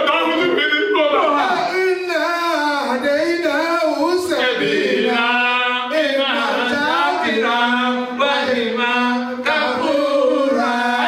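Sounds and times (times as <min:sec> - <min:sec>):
man singing unaccompanied chant: 0:01.6 - 0:11.0.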